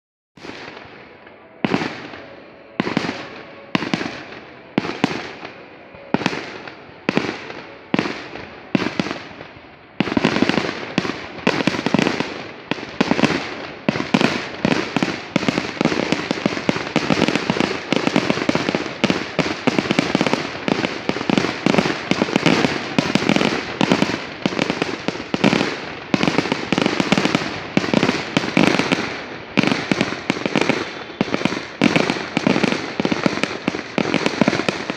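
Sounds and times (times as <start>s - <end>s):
fireworks booming: 0.4s - 34.9s
fireworks crackle: 0.4s - 34.9s.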